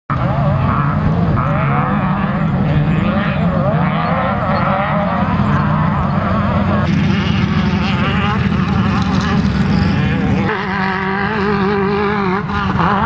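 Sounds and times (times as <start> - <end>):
race vehicle engines revving: 0.1 - 13.0.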